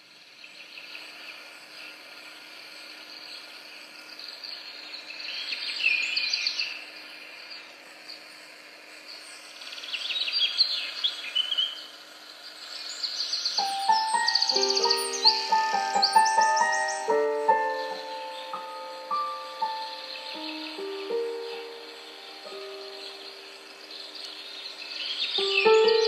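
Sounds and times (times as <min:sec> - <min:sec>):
birds singing trills: 0:00.4 - 0:26.0.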